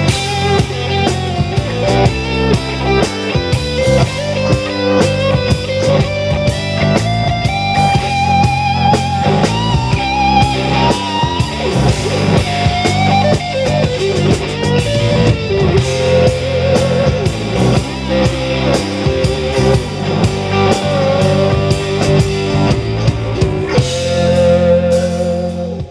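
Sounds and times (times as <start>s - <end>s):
bass guitar: 0.0s - 25.9s
drum kit: 0.0s - 25.9s
electric guitar lead with bent notes: 0.0s - 25.9s.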